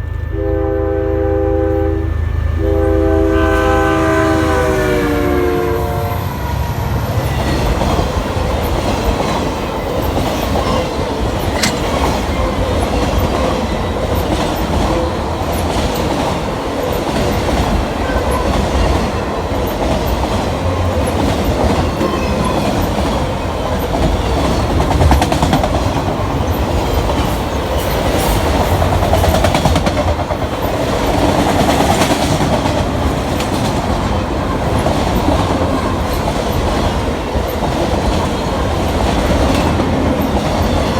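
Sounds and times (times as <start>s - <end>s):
train wheels rumbling and clacking: 6.5s - 40.9s.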